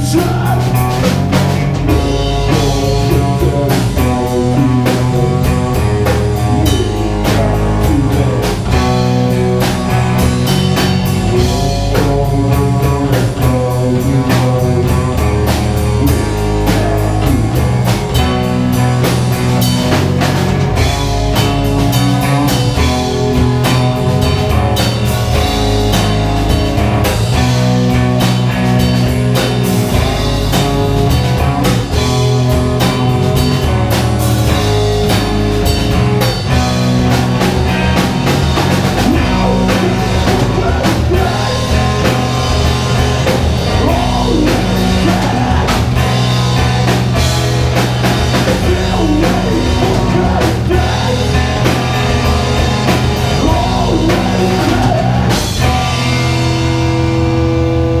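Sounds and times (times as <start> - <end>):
drum kit beating steadily: 0.0 - 58.0
loud live rock band: 0.0 - 58.0.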